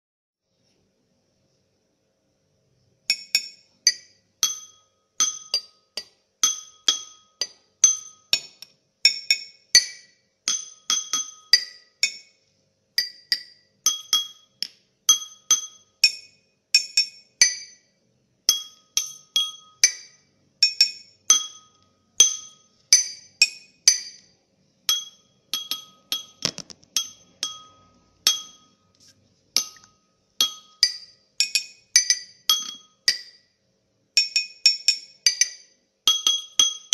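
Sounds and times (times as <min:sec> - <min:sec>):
glass clinking: 0:03.1 - 0:12.4, 0:13.0 - 0:17.9, 0:18.5 - 0:29.0, 0:29.6 - 0:33.6, 0:34.2 - 0:36.9.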